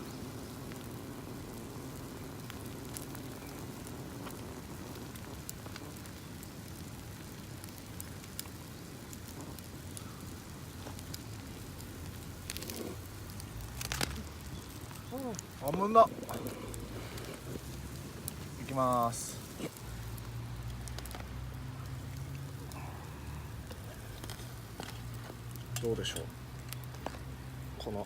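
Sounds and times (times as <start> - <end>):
campfire crackling and popping: 0.0 - 28.0
steady fire hiss: 0.0 - 28.0.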